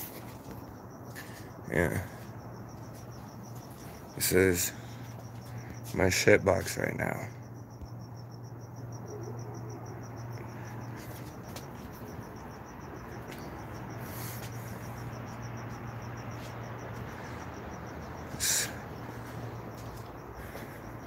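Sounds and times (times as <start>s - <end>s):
cricket chirping: 0.0s - 21.0s
steady low hum: 0.0s - 21.0s.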